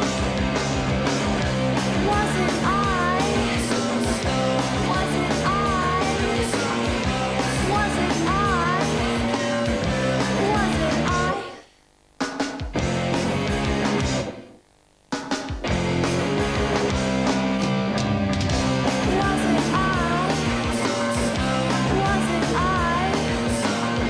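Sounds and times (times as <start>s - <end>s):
rock band playing: 0.0s - 11.4s, 12.6s - 14.4s, 15.3s - 24.0s.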